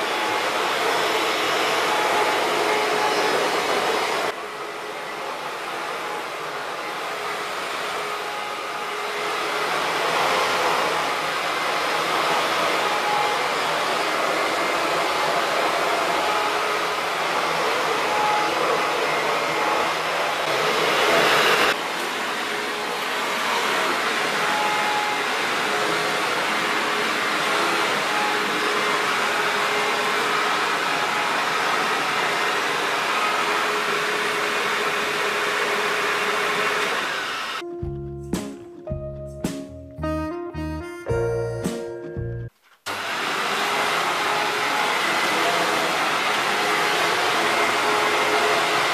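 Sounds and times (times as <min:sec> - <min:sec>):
vacuum cleaner on carpet: 0:00.0 - 0:37.6, 0:42.9 - 0:48.9.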